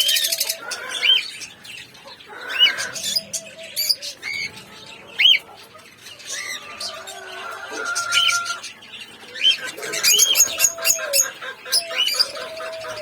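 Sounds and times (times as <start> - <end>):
parrots chirping: 0.0 - 13.0
soft bird chatter: 0.0 - 13.0.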